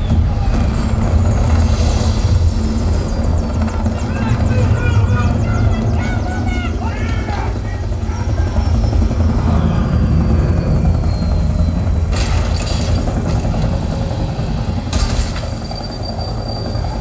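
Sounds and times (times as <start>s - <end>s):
heavy low rumble: 0.0s - 15.0s.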